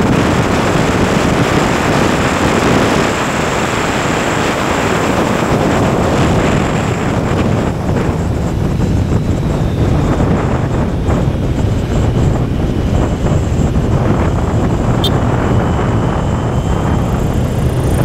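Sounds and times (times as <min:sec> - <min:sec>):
motorcycle engine: 0:00.0 - 0:18.0
road noise: 0:00.0 - 0:18.0
wind rushing over microphone: 0:00.0 - 0:18.0.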